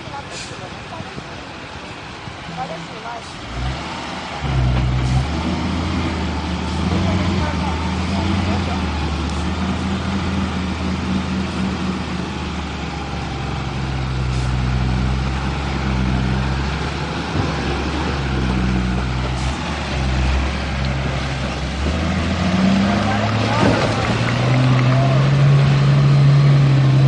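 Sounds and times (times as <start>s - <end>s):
heavy vehicle engine humming: 0.0s - 27.0s.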